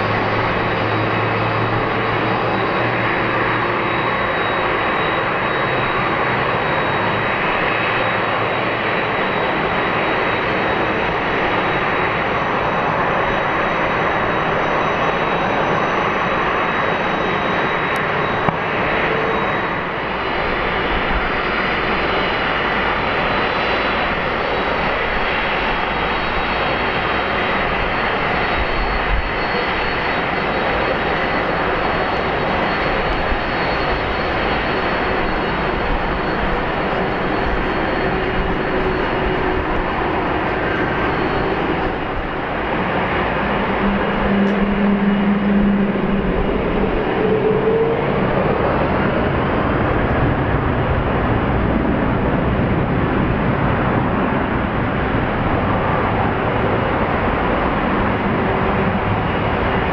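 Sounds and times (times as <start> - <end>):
jet engines roaring with whine: 0.0 - 59.9.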